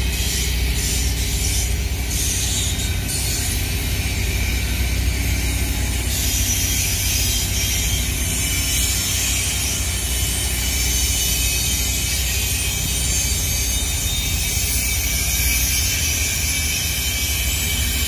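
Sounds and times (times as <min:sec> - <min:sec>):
rail cars rattling: 0:00.0 - 0:18.0
train wheels rumbling on rail: 0:00.0 - 0:18.0.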